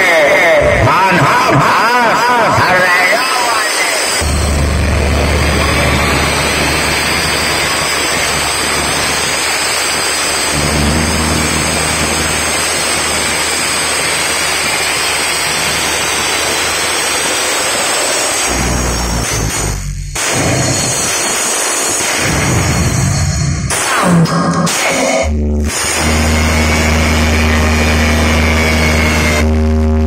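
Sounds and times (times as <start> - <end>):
deep bass tones: 4.2 - 20.9, 22.3 - 30.0.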